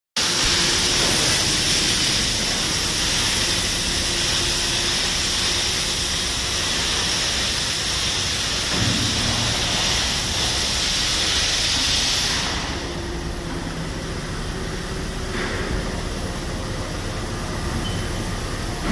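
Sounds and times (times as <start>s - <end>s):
machinery hissing: 0.2s - 18.9s.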